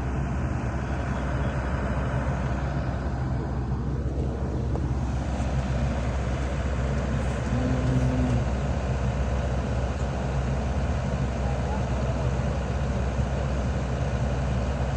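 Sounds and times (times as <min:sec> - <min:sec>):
heavy machinery engine drone: 0:00.0 - 0:14.9.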